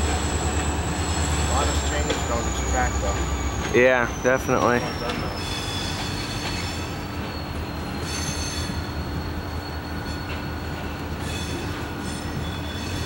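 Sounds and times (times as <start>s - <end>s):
high-pitched wheel squeal: 0.0s - 13.0s
train wheels rumbling on rail: 0.0s - 13.0s.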